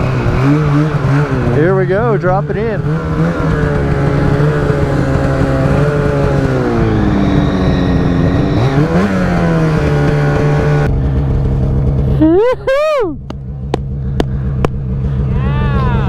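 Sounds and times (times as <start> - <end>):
snowmobile engine: 0.0 - 16.0.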